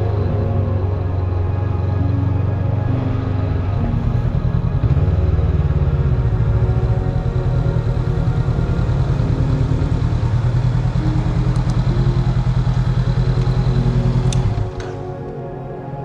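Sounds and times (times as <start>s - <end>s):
motorbike engine running: 0.0s - 15.4s
background music: 0.0s - 16.0s.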